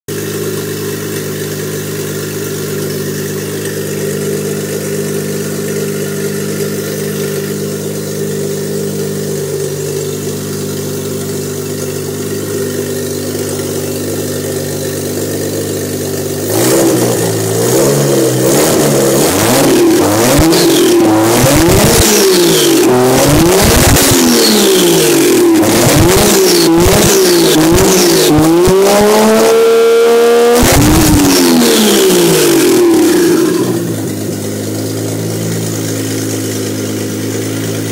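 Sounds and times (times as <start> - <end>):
car engine idling and revving: 0.1 - 37.9.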